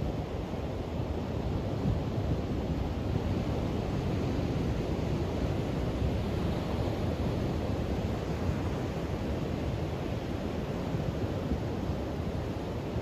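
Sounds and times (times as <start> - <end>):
surf breaking on a beach: 0.0 - 13.0.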